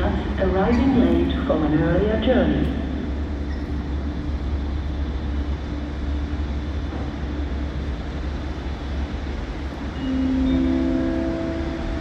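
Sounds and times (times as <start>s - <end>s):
faint hum: 0.0s - 12.0s
low rumble of trains: 0.0s - 12.0s.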